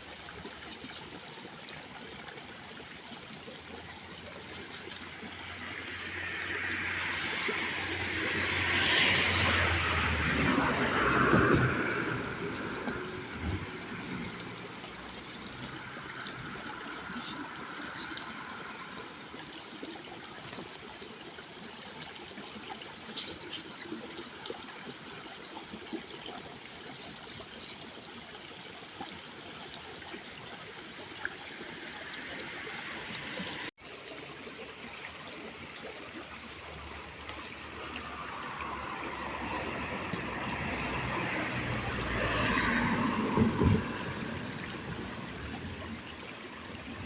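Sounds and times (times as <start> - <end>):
water trickling: 0.0 - 47.0.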